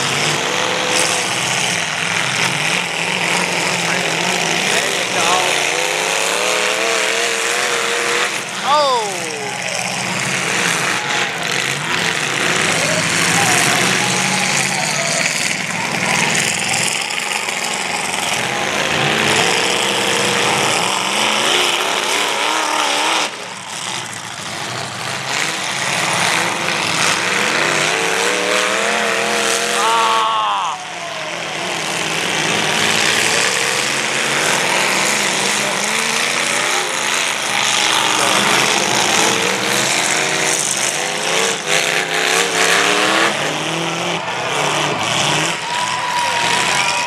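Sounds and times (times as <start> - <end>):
car engines revving hard: 0.0 - 47.0.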